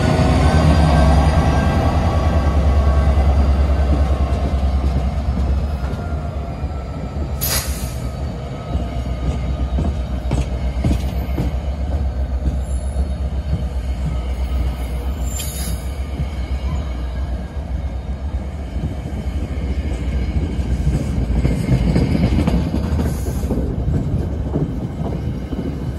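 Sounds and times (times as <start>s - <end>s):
train coaches rumbling past: 0.0s - 25.9s.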